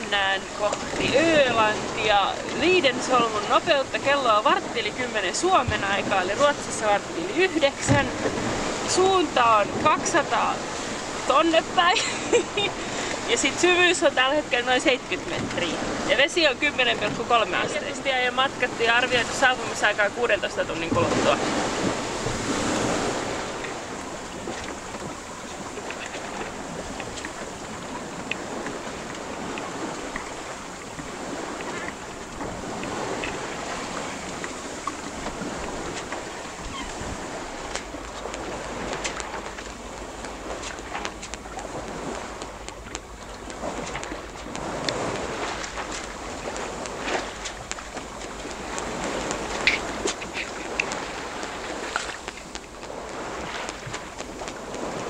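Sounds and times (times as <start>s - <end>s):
water splashing along hull: 0.0s - 55.0s
wind on microphone: 0.0s - 55.0s.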